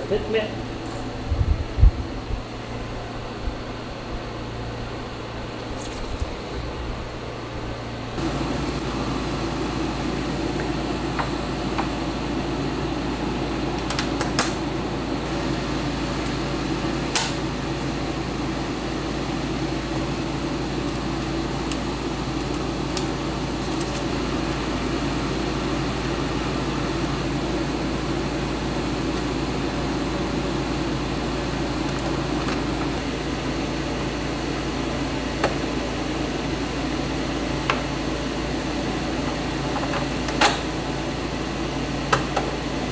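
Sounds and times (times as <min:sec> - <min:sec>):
fan whirring hum: 0:00.0 - 0:42.9.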